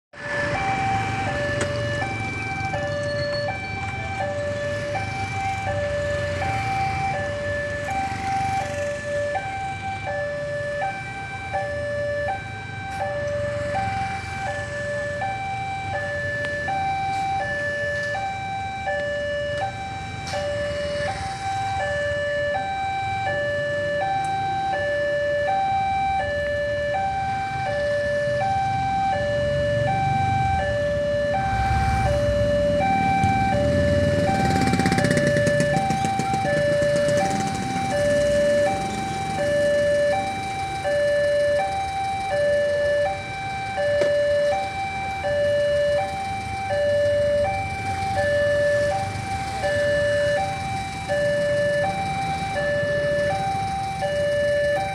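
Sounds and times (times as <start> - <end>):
motorcycle and car engines: 0.1 - 54.9
level-crossing two-tone alarm: 0.2 - 54.9.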